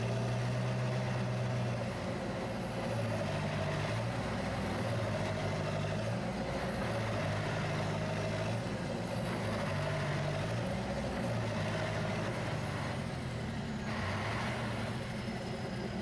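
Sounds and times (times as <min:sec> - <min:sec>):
heavy vehicle engines running: 0:00.0 - 0:16.0.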